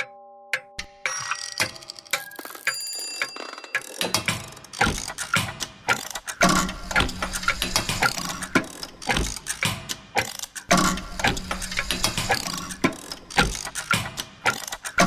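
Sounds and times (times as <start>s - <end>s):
mechanical clicking and ratcheting: 1.4s - 15.0s.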